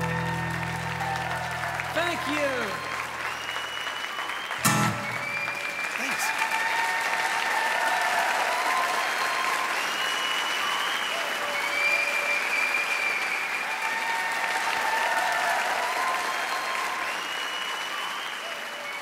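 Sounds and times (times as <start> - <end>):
audience applauding: 0.0 - 19.0
audience cheering: 0.0 - 19.0.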